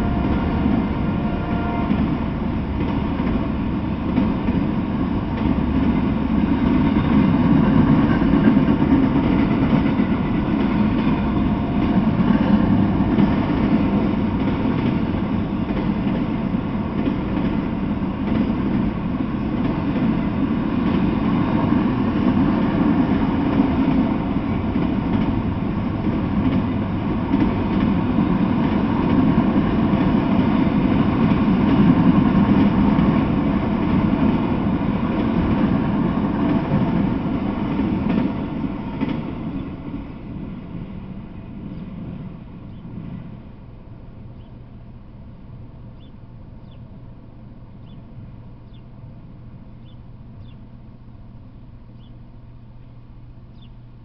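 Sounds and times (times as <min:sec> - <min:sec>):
steel wheels on rails: 0:00.0 - 0:43.4
freight train rolling past: 0:00.0 - 0:54.0.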